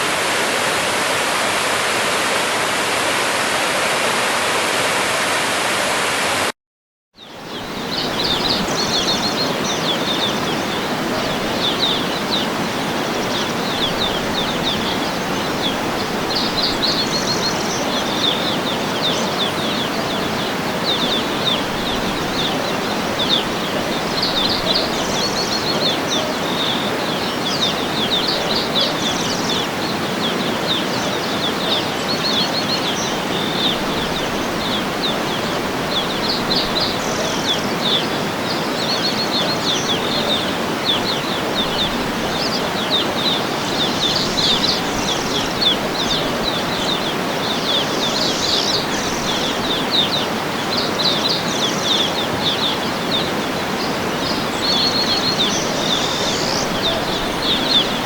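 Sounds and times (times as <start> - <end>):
waterfall rushing: 0.0 - 6.5, 7.4 - 58.0
birds chirping: 7.2 - 58.0.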